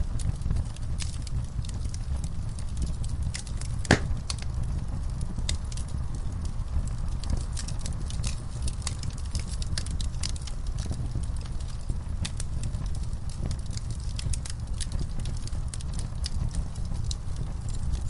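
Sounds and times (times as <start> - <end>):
burning logs crackling and popping: 0.0 - 18.0
low rumble of flames: 0.0 - 18.0.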